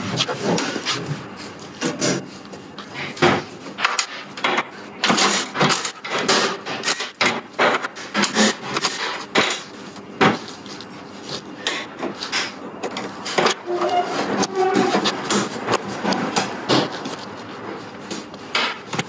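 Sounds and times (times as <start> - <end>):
plastic rubbing and scraping: 0.0 - 19.0.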